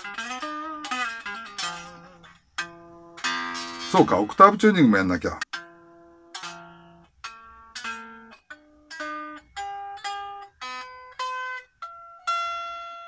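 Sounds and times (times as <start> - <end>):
unplugged electric guitar notes: 0.0 - 13.0.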